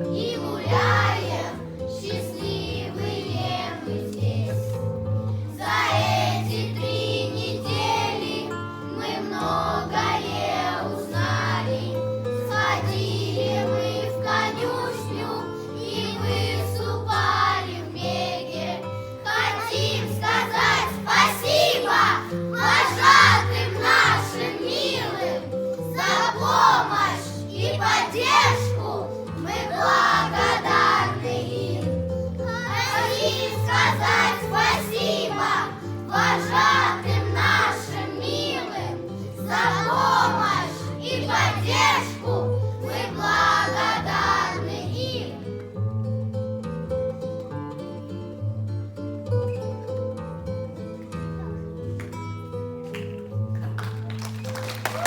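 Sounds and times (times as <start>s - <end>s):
children singing together: 0.0s - 45.5s.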